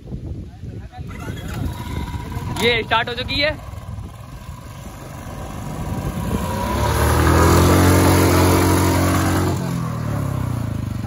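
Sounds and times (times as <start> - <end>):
rear wheel spinning in dirt: 0.9 - 10.8
motorcycle engine revving: 1.0 - 11.0.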